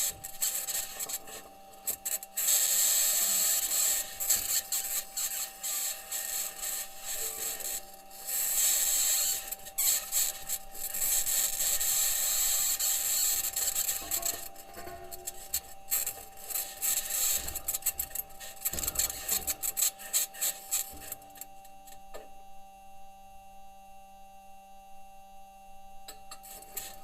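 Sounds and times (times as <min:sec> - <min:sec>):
harsh scratchy rasp of rover wheels: 0:00.0 - 0:21.3, 0:26.5 - 0:27.0.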